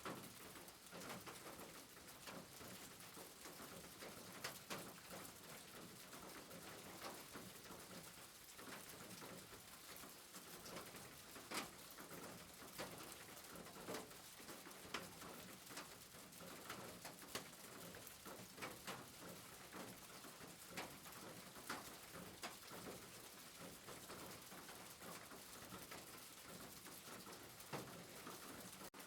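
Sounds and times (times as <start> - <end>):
rain hiss: 0.0 - 29.0.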